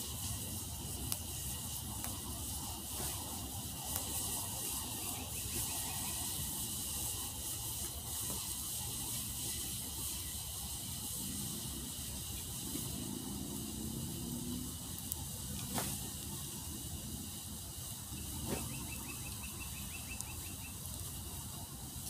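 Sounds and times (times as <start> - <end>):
high hiss: 0.0 - 22.0.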